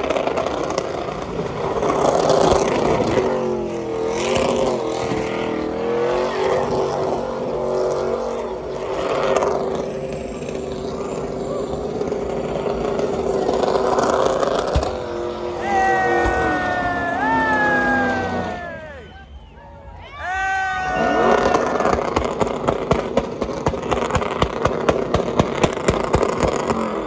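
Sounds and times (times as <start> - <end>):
vehicle engine revving: 0.0 - 19.1, 21.0 - 27.0
loud dense crowd noise: 0.0 - 27.0.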